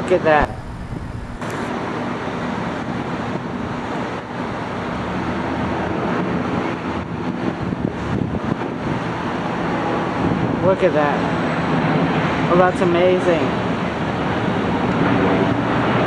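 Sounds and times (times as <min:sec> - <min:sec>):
jet engines at takeoff power: 0:00.0 - 0:16.0.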